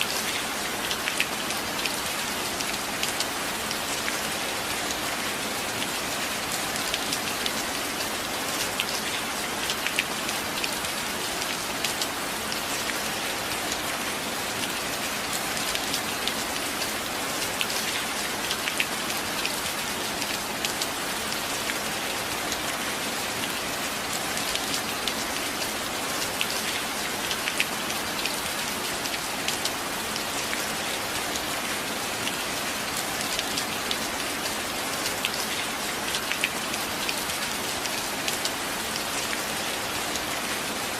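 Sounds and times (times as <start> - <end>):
steady rain with dripping: 0.0 - 40.9.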